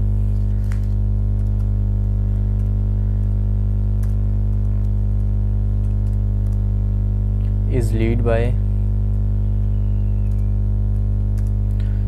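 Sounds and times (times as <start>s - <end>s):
loud electrical hum: 0.0s - 12.0s.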